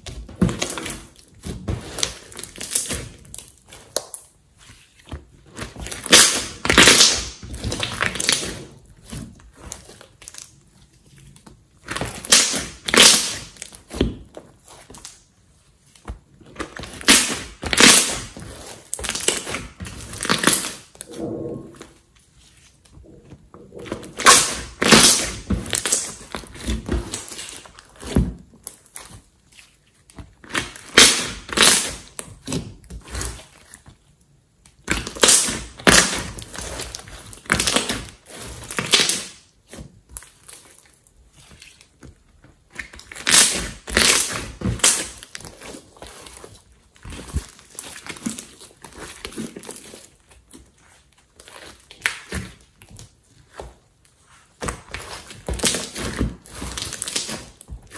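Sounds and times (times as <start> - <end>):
slime popping and squelching: 0.0 - 15.2, 16.2 - 22.2, 22.9 - 29.6, 30.4 - 33.8, 34.8 - 41.8, 42.6 - 53.6, 54.5 - 57.9.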